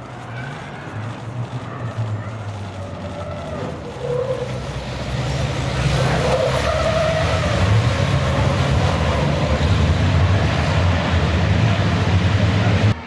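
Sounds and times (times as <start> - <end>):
truck diesel engines running hard: 0.0 - 13.0.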